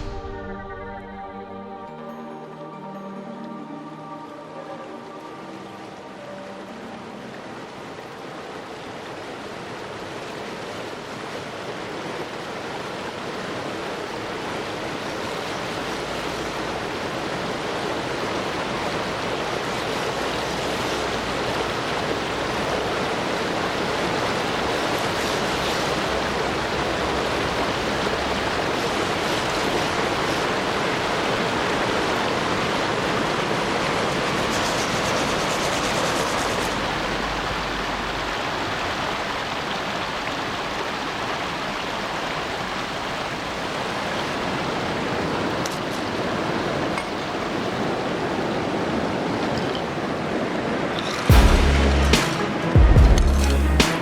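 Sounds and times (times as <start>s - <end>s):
river water rushing: 1.3s - 54.0s.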